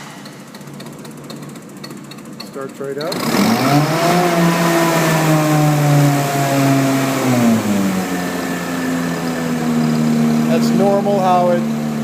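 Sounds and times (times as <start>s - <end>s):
carpet cleaner engine revving: 0.0s - 12.0s.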